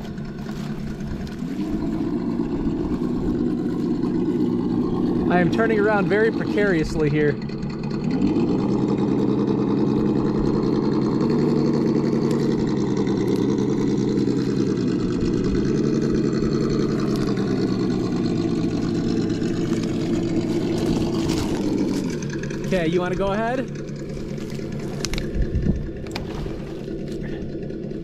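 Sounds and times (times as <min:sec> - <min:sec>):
simulated engine sound from speaker: 0:00.0 - 0:28.0.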